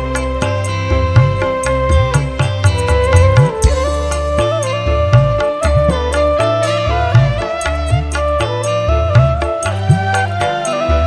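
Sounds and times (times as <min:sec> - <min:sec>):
deep sliding bass notes: 0:00.0 - 0:11.0
lead melody: 0:00.0 - 0:11.0.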